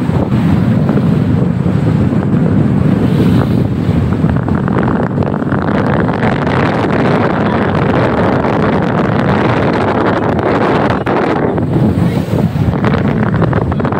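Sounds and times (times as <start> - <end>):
boat engine rumble: 0.0 - 13.9
water: 0.0 - 13.9
wind buffeting microphone: 0.0 - 13.9.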